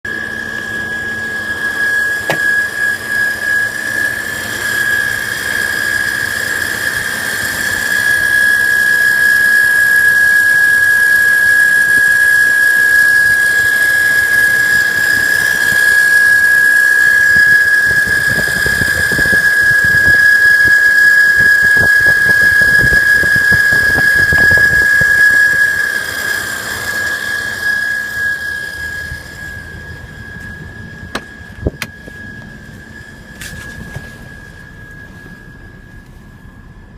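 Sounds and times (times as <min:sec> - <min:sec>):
high-pitched engine whistle: 0:00.0 - 0:36.9.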